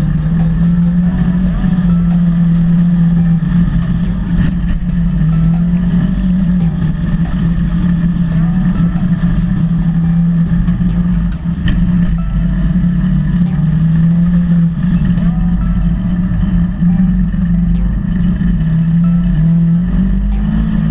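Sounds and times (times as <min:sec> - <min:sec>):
engine running: 0:00.0 - 0:20.9.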